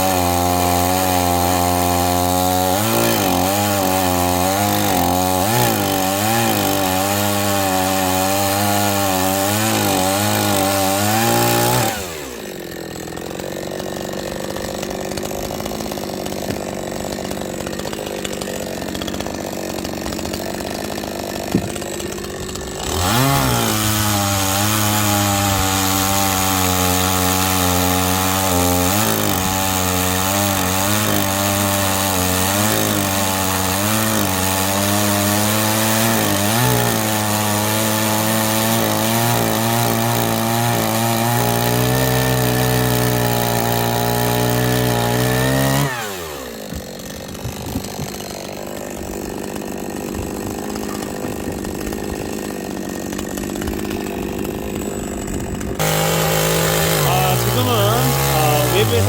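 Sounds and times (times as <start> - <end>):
chainsaw cutting firewood: 0.0 - 59.0
chainsaw idling: 0.0 - 59.0.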